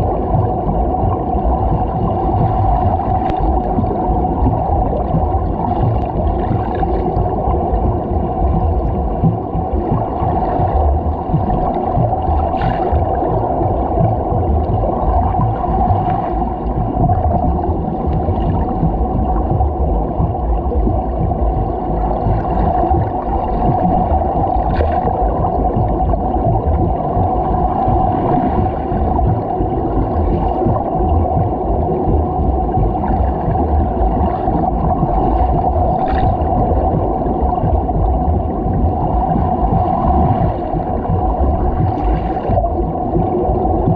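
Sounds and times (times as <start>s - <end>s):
muffled water churning: 0.0s - 43.9s.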